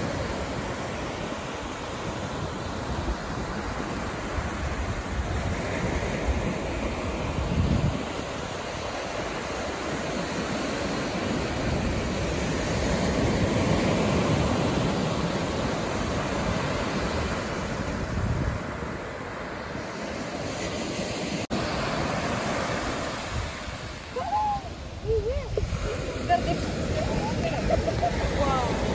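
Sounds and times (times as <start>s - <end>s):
surf washing up beach: 0.0s - 28.9s.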